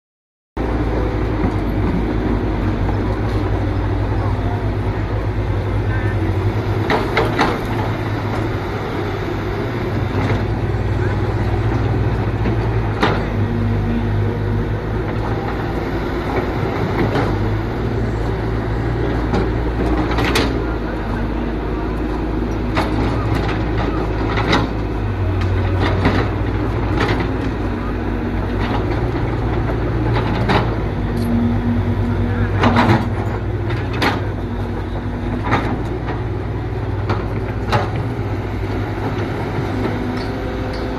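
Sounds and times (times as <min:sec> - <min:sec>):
excavator engine humming: 0:00.6 - 0:40.9.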